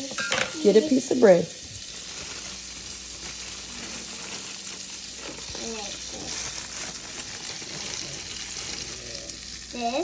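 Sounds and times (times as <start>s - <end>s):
frying pan sizzling: 0.0s - 10.0s.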